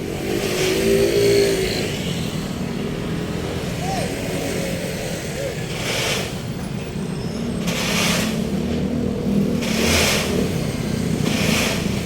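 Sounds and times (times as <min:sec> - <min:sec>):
passing vehicles rushing hiss: 0:00.0 - 0:12.0.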